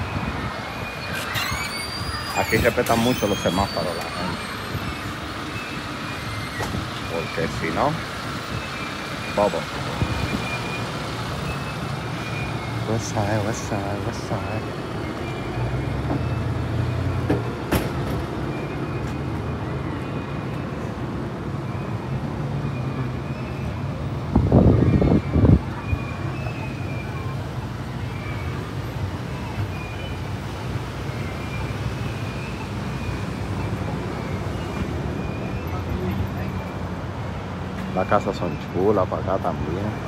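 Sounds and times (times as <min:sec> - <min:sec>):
traffic engine drone: 0:00.0 - 0:40.0.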